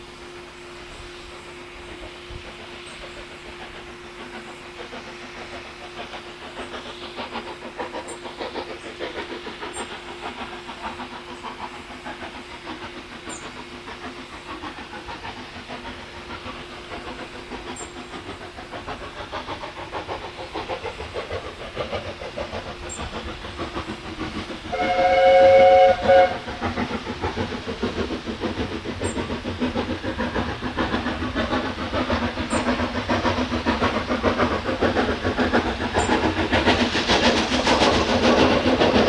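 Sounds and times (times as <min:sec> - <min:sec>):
steam locomotive exhaust chuffs: 0:00.0 - 0:39.0.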